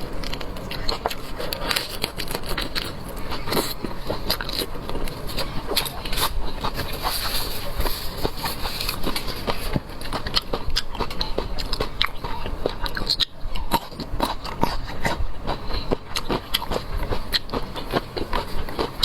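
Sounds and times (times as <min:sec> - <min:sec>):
biting and chewing seafood: 0:00.0 - 0:19.0.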